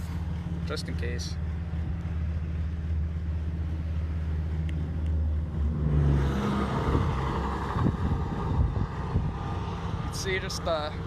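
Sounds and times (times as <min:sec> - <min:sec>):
car engine humming: 0:00.0 - 0:11.0
road noise rushing: 0:00.0 - 0:11.0.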